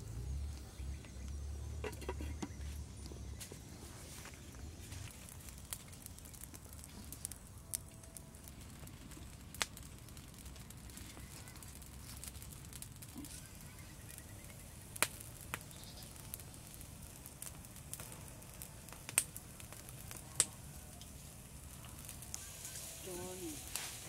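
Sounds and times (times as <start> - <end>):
wood fire crackling: 0.0 - 24.0
sharp fire pops: 4.4 - 24.0.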